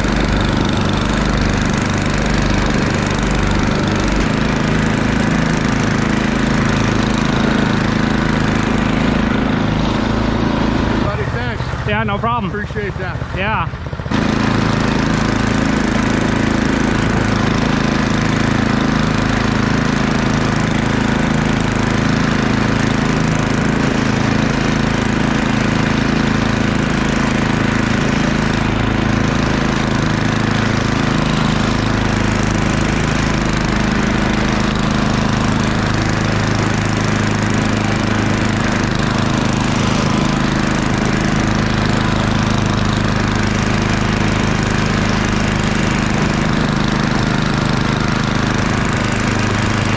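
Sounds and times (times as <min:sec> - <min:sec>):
snowblower engine running: 0:00.0 - 0:49.9.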